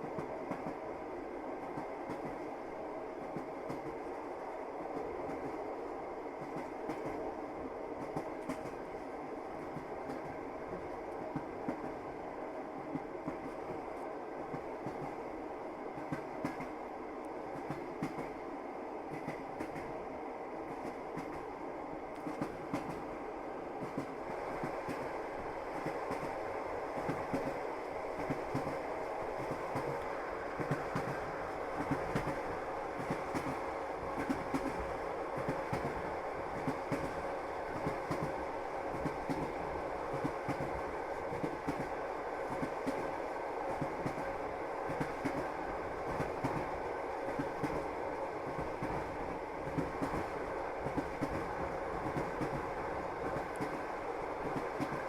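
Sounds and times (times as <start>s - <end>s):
train wheels clattering on rails: 0.0s - 0.8s, 1.6s - 2.5s, 3.2s - 4.1s, 6.4s - 7.2s, 8.0s - 9.0s, 9.6s - 12.0s, 12.8s - 13.8s, 14.5s - 15.2s, 16.0s - 16.8s, 17.5s - 18.4s, 19.1s - 20.0s, 20.7s - 21.5s, 22.1s - 23.1s, 23.8s - 55.0s.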